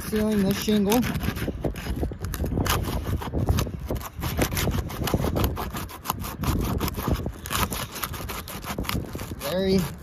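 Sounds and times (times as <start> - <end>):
roof shingle crackling and scraping: 0.0 - 10.0.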